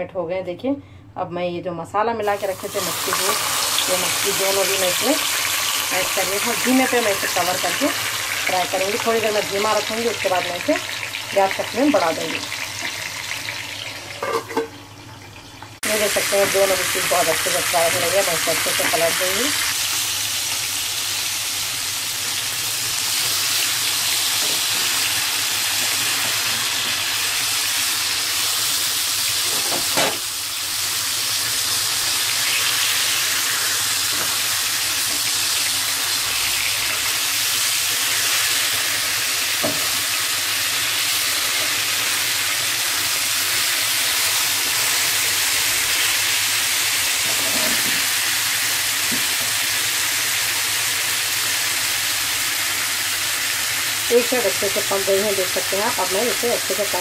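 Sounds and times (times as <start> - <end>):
fish sizzling in oil: 2.3 - 57.0.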